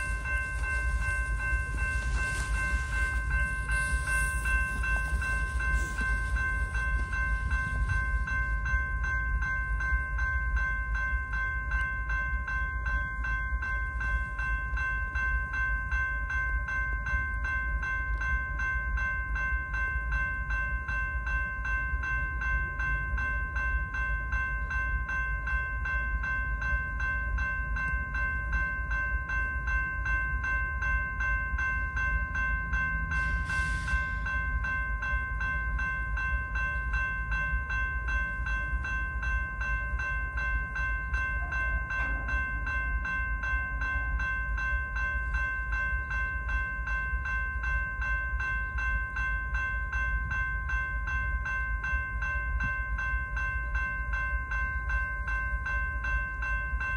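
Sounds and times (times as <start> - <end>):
crossing warning bell ringing: 0.0 - 56.9.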